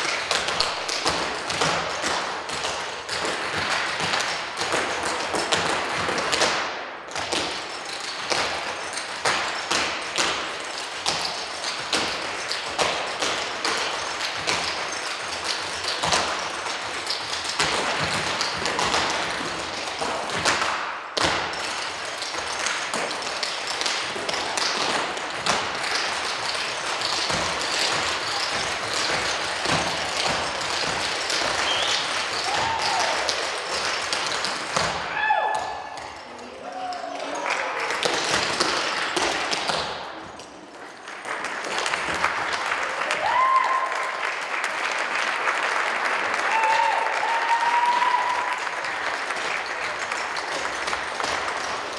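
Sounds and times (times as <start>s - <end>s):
shoes tapping on wooden stage: 0.0s - 44.9s, 45.5s - 51.9s.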